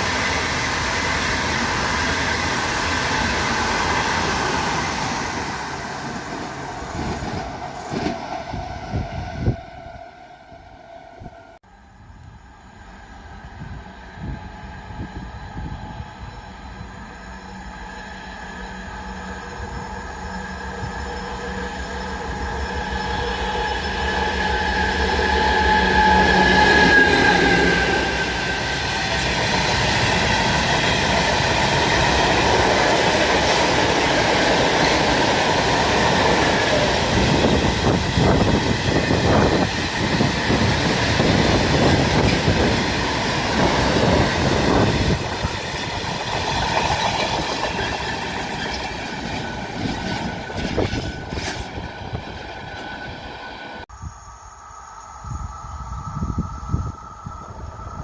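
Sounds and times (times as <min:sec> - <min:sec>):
diesel locomotive engine: 0:00.0 - 0:58.0.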